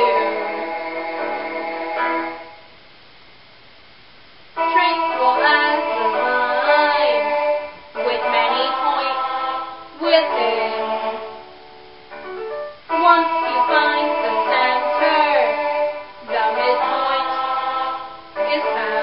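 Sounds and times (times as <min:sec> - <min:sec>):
young female voices singing: 0:00.0 - 0:02.4, 0:04.6 - 0:11.5, 0:12.9 - 0:19.0
pop backing track: 0:00.0 - 0:02.7, 0:04.6 - 0:19.0.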